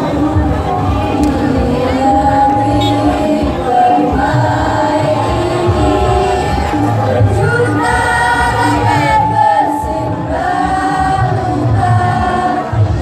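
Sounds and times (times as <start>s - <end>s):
children's choir singing: 0.0s - 13.0s.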